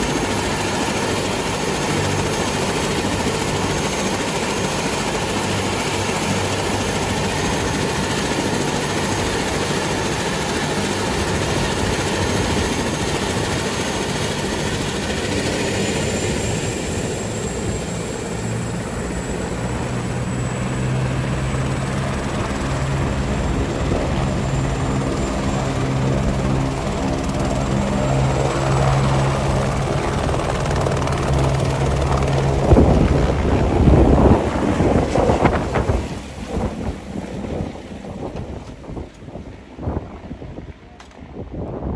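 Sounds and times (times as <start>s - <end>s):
helicopter drone and whine: 0.0s - 41.9s
wind buffeting microphone: 5.4s - 18.0s, 20.8s - 41.9s.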